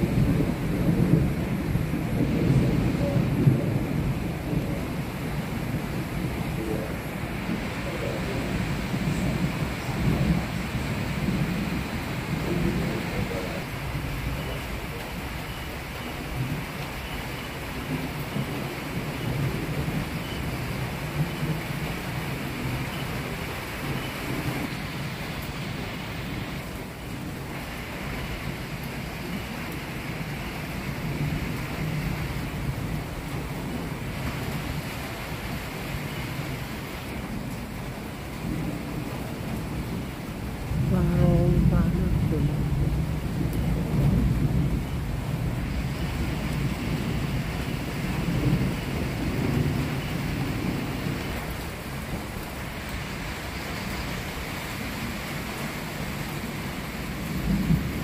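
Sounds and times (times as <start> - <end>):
low thunder rumble: 0.0 - 58.0
rain and wind rushing: 0.0 - 58.0.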